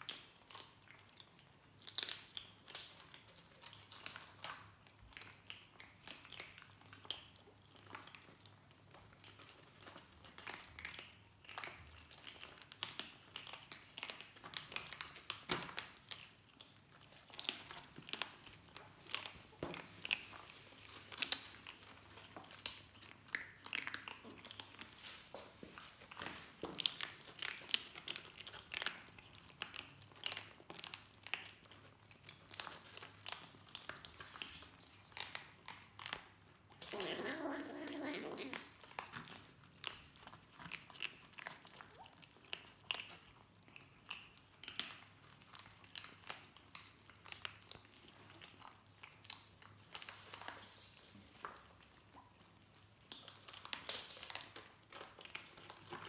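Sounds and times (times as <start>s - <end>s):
kittens crunching dry food: 0.0s - 56.0s.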